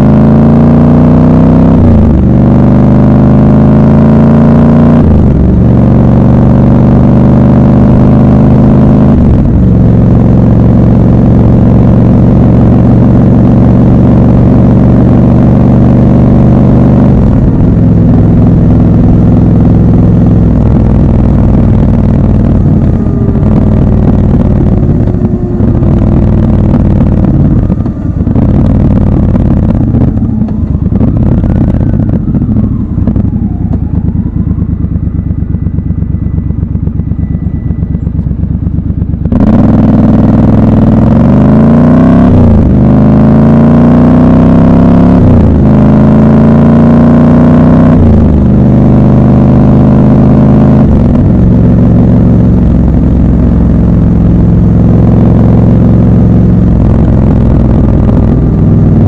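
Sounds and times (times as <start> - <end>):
motorcycle engine revving and idling: 0.0 - 59.0.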